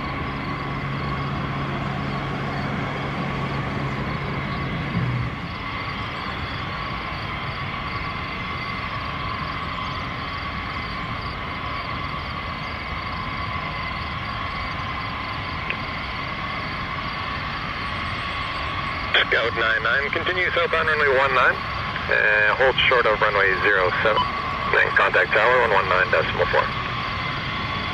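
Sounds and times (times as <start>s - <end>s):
jet engines whining: 0.0s - 27.9s.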